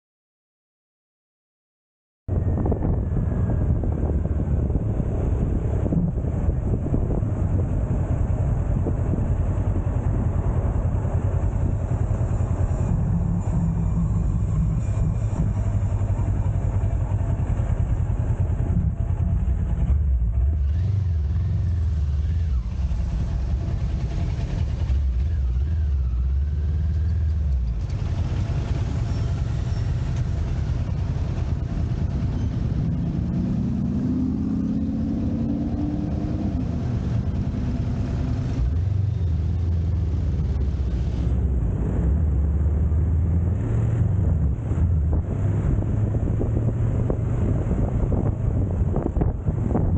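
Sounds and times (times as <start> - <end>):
motorcycle engine running: 2.3 - 49.9.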